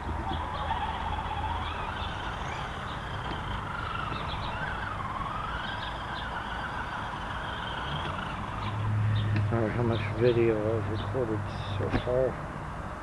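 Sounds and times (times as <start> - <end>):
clicks of truck over rock: 0.0 - 9.9, 11.8 - 12.3
electric motor whining: 0.0 - 10.7.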